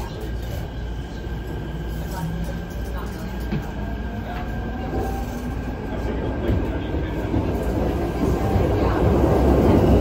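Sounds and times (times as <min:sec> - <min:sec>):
train rumble in tunnel: 0:00.0 - 0:10.0.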